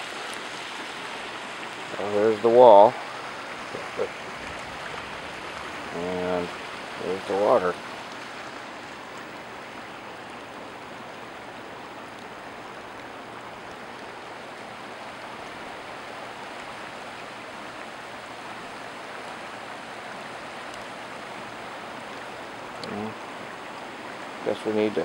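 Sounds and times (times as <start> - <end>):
flood water rushing: 0.0 - 25.0.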